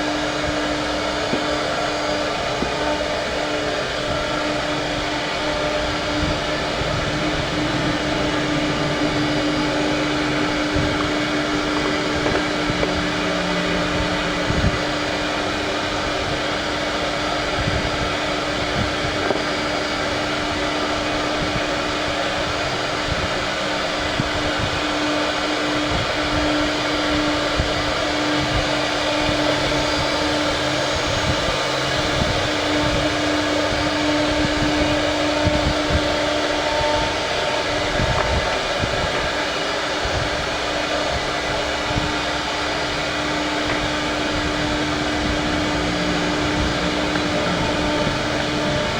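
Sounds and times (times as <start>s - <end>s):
woodworking machine whirring: 0.0s - 48.9s.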